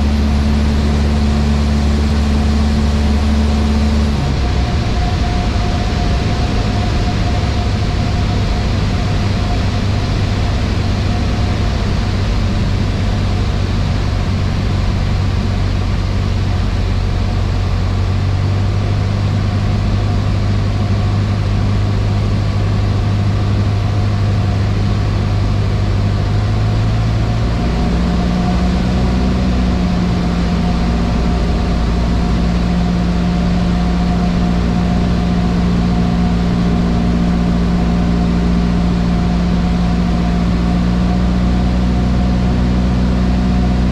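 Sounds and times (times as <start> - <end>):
airplane engine and propeller droning: 0.0 - 43.9.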